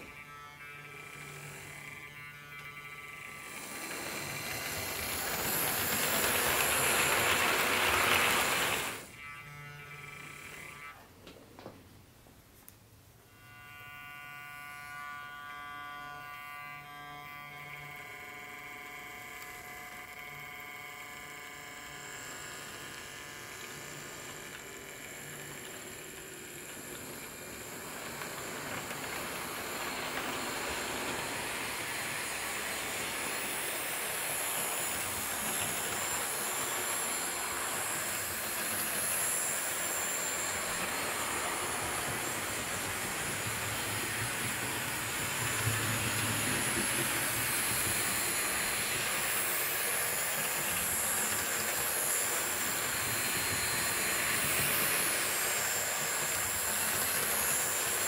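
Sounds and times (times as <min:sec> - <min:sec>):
model train rumble and whine: 0:00.0 - 0:11.8, 0:13.2 - 0:58.0.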